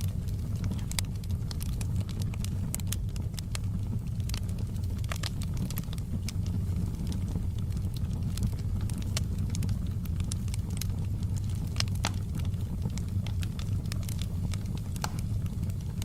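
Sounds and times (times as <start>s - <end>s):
fire rumbling in fireplace: 0.0s - 16.0s
wood fire crackling and popping: 0.0s - 16.0s.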